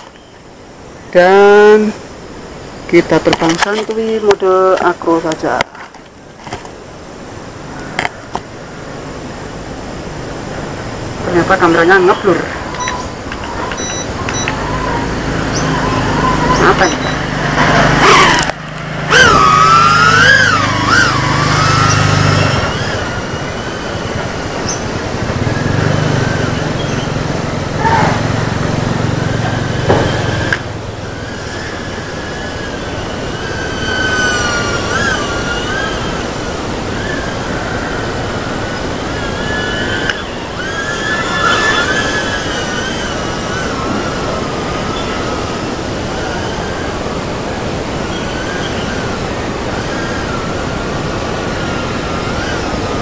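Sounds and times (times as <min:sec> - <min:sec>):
small drone motors whining: 0:00.0 - 0:53.0.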